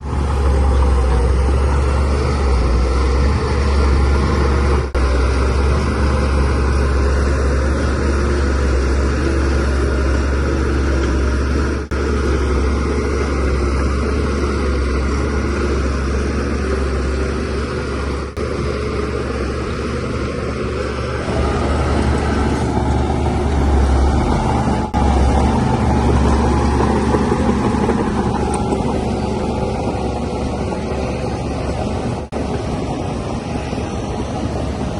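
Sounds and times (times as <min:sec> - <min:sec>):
bulldozer diesel engine droning: 0:00.0 - 0:34.9.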